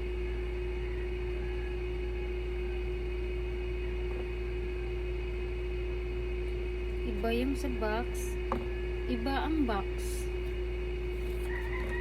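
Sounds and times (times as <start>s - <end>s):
appliance motor hum: 0.0s - 12.0s.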